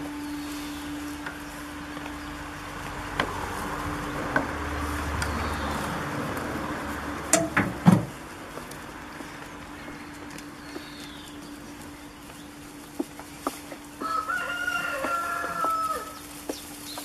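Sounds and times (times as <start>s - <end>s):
steady low hum: 0.0s - 14.0s
goats chewing hay: 0.0s - 17.0s.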